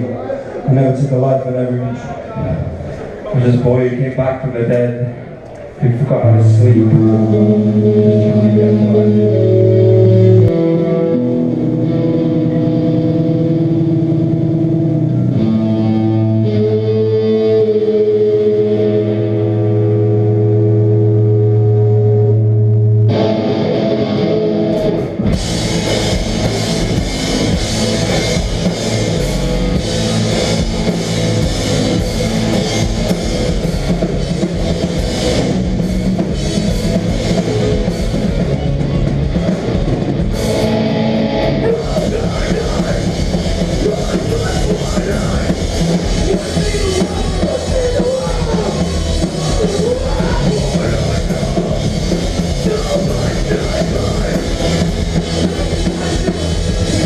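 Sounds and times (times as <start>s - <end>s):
hardcore band playing live: 0.0s - 57.0s.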